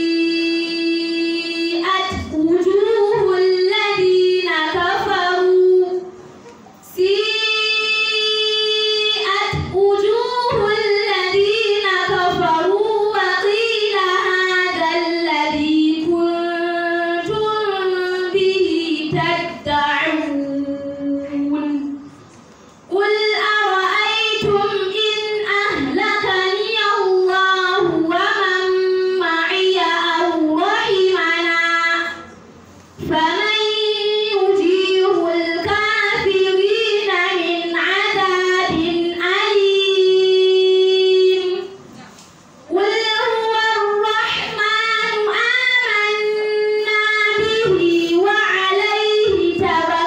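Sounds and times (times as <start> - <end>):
woman reciting melodically: 0.0 - 50.0.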